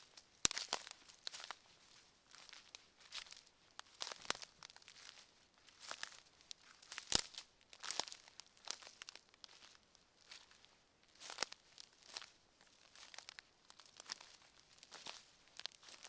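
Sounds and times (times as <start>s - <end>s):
footsteps crunching on forest path: 0.0s - 16.0s.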